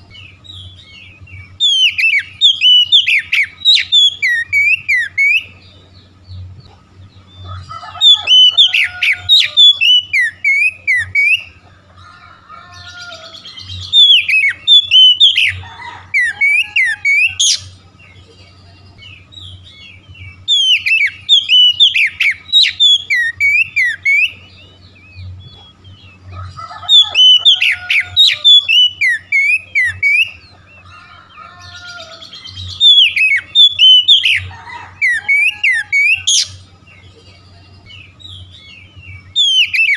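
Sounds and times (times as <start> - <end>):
songbird whistling: 0.0 - 6.5, 7.1 - 39.9.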